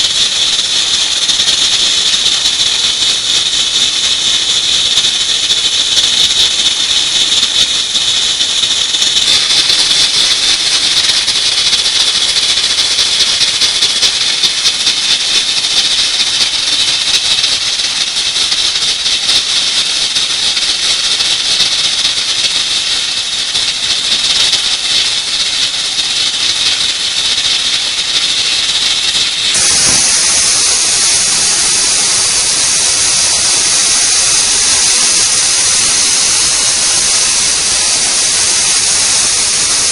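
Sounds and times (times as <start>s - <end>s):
pressure cooker whistle hissing: 0.0s - 39.9s.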